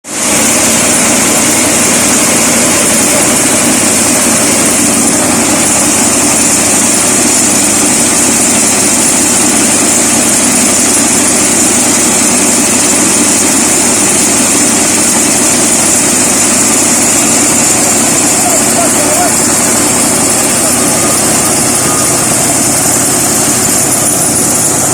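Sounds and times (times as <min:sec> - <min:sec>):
combine harvester engine droning: 0:00.1 - 0:24.9.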